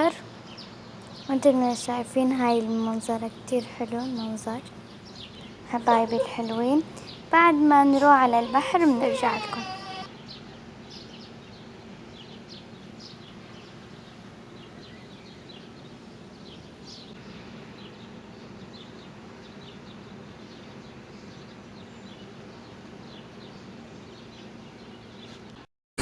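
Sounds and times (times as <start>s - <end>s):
small birds chirping: 0.0s - 25.5s.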